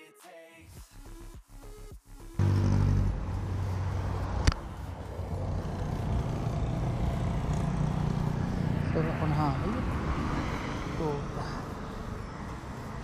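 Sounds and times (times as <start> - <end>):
vehicle engine hum: 2.3 - 13.0
road traffic noise: 2.4 - 13.0.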